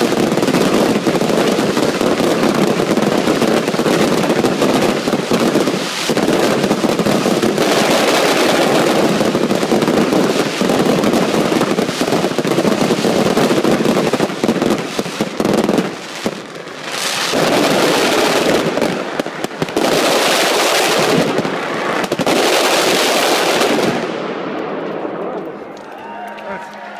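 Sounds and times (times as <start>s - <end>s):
fireworks bangs: 0.0s - 26.9s.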